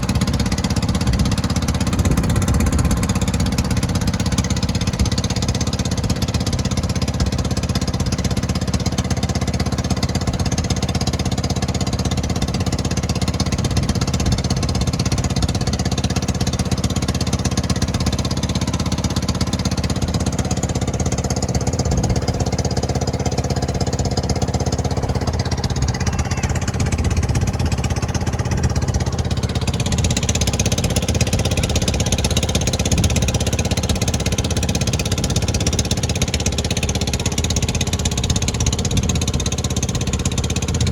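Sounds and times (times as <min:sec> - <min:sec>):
engine running with pounding beat: 0:00.0 - 0:40.9.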